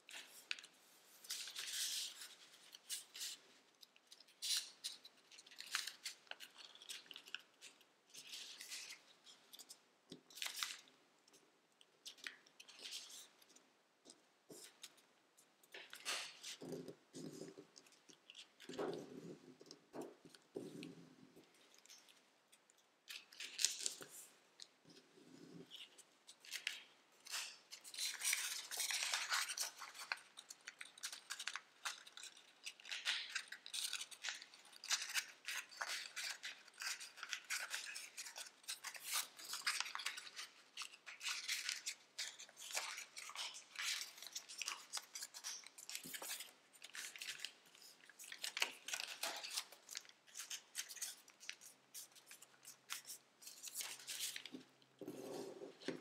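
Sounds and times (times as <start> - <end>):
paper crinkling and rustling: 0.0 - 10.9, 15.6 - 56.0.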